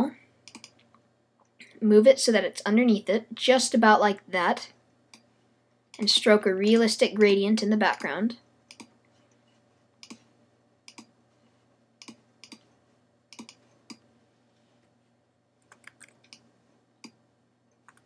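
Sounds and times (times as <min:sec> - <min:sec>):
faint steady low hum: 0:00.0 - 0:18.0.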